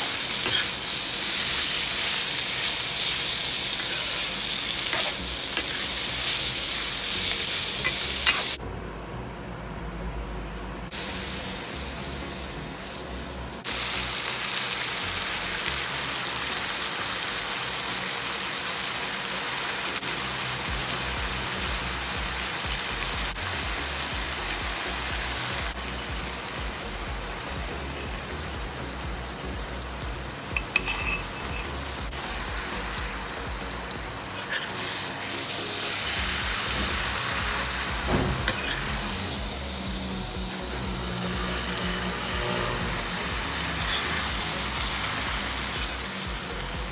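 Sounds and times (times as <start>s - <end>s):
stir-fry sizzling in a wok: 0.0s - 8.6s, 10.9s - 46.9s.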